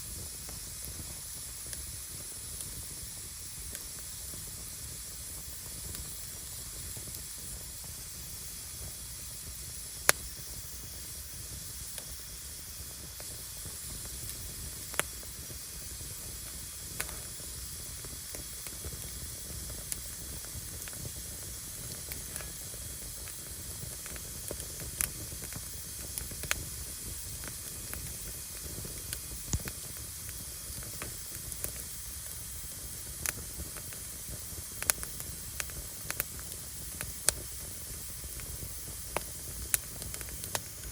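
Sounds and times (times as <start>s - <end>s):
fire popping and crackling: 0.0s - 40.9s
firewood burning hiss: 0.0s - 40.9s.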